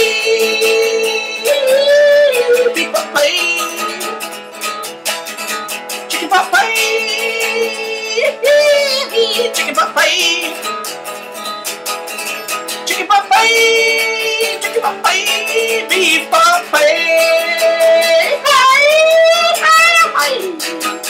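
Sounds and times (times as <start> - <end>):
man singing: 0.0 - 4.4, 6.0 - 10.8, 12.8 - 21.0
electric guitar strumming: 0.0 - 21.0.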